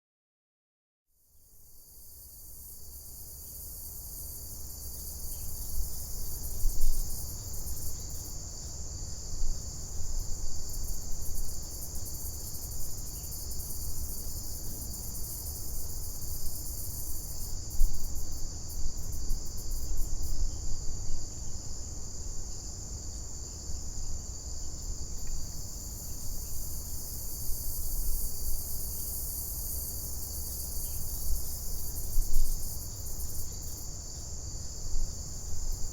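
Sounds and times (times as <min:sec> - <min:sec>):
night insects trilling: 0:01.2 - 0:35.9.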